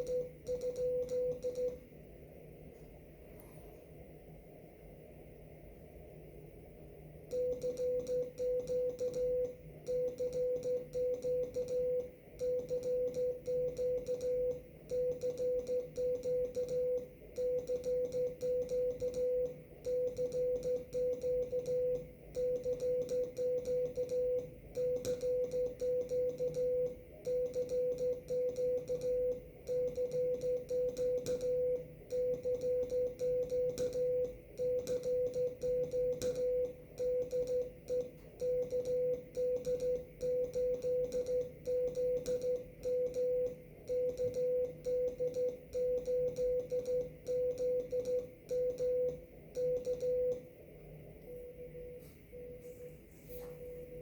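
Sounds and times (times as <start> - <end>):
faint ticking: 0.0 - 1.8, 7.3 - 50.5
morse code tone: 0.0 - 1.8, 7.3 - 50.5, 51.3 - 54.0.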